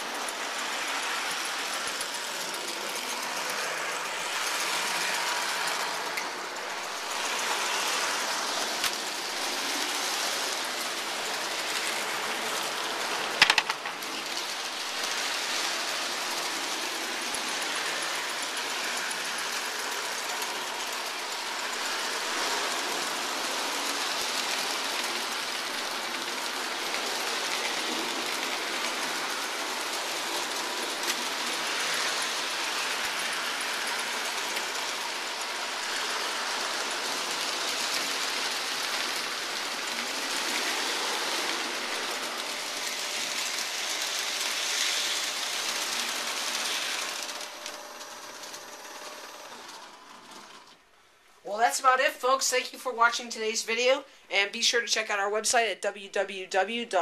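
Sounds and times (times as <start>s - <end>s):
model trains rolling on metal track: 0.0s - 54.0s.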